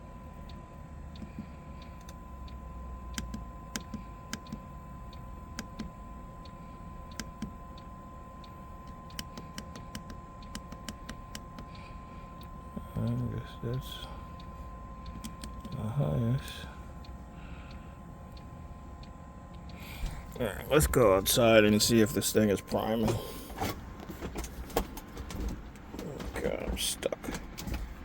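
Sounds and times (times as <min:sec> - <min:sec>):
heater fan humming: 0:00.0 - 0:28.0
thin constant whine: 0:00.0 - 0:28.0.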